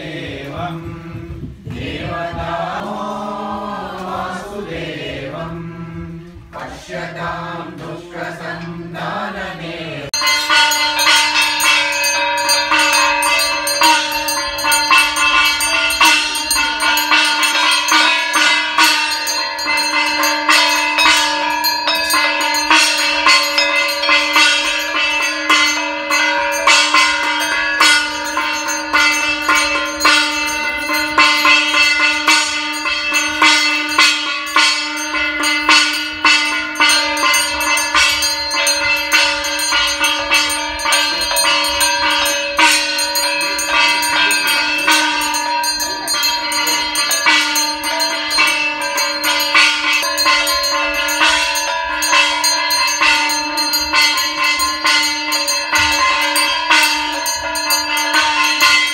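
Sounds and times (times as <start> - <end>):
brass hand bell ringing: 10.2 - 58.9.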